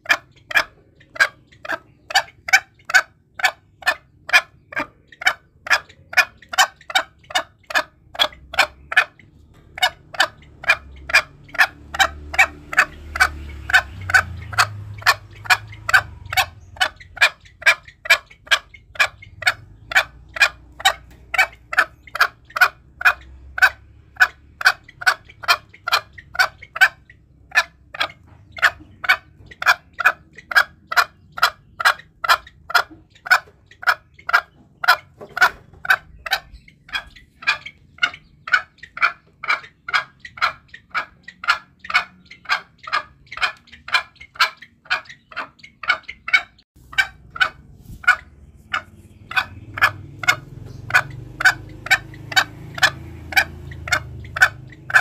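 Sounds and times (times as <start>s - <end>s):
junglefowl clucking calls: 0.0s - 55.0s.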